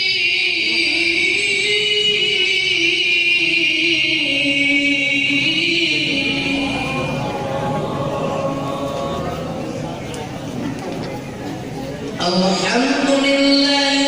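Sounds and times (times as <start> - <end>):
person chanting recitation: 0.0 - 11.2, 12.1 - 14.0.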